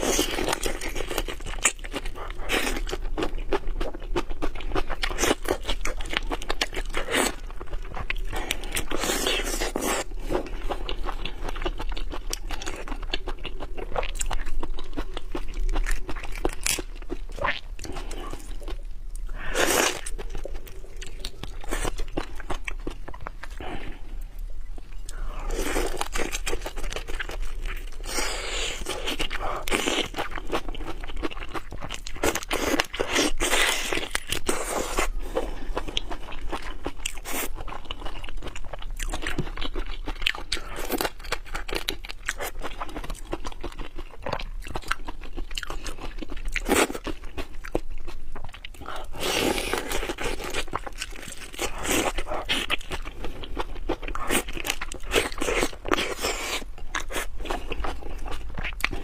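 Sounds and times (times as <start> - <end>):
wet chewing: 0.0 - 59.0.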